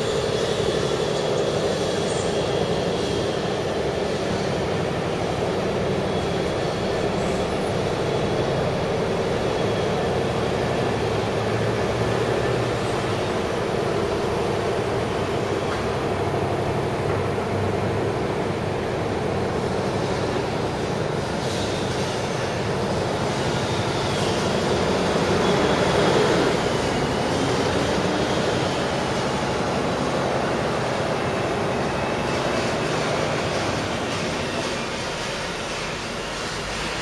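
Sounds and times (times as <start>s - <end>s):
city background rumble: 0.0s - 37.0s.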